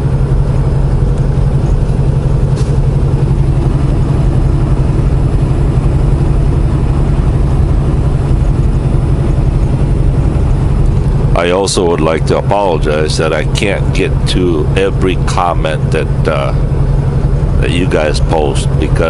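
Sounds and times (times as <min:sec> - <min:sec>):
truck diesel engine droning: 0:00.0 - 0:19.0.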